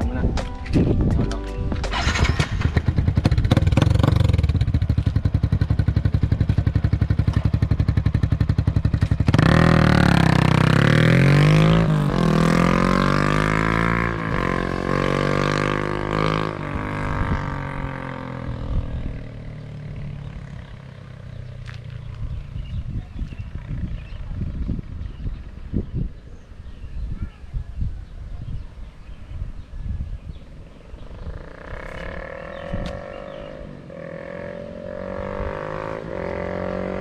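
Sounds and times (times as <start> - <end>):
motorcycle engine idling and revving: 1.3 - 27.0, 29.2 - 37.0.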